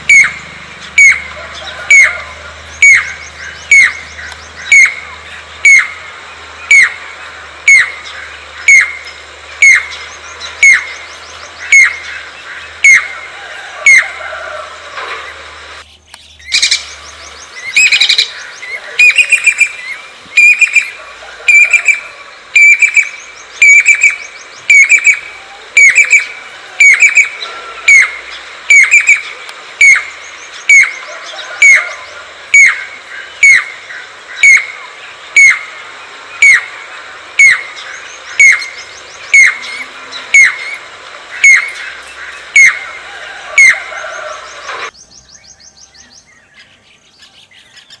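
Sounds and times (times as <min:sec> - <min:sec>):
cuckoo calling: 0:00.0 - 0:48.0.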